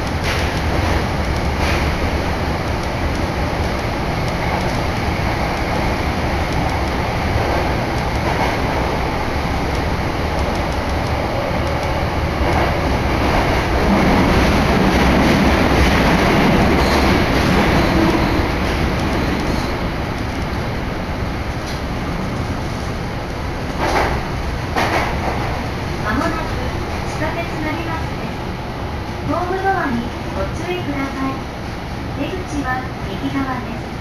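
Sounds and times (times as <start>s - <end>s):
subway train wheels rumbling: 0.0s - 34.0s.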